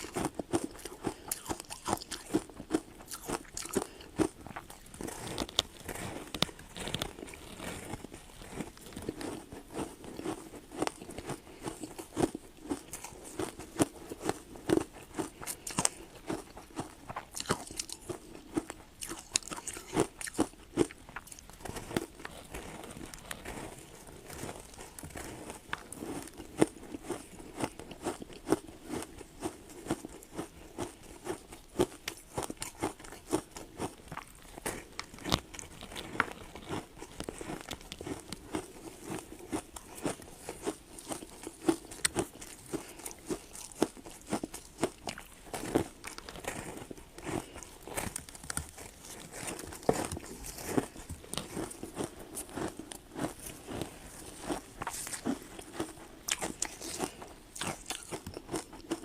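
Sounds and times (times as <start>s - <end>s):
person chewing ice: 0.0s - 59.0s.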